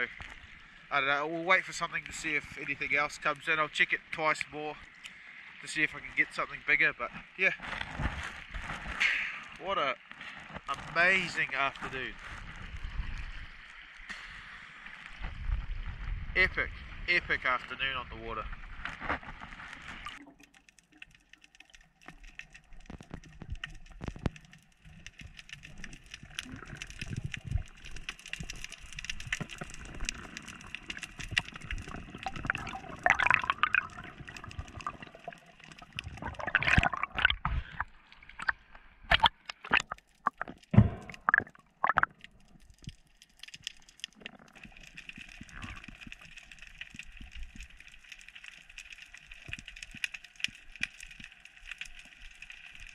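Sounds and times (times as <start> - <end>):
water gurgling and sloshing: 0.0 - 52.9.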